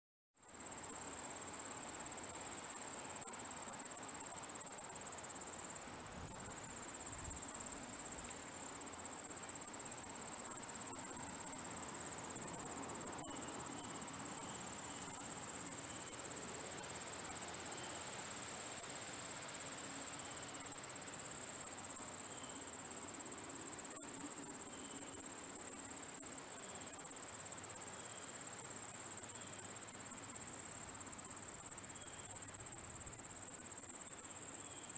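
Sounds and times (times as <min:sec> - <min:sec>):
crickets trilling: 0:00.5 - 0:34.9.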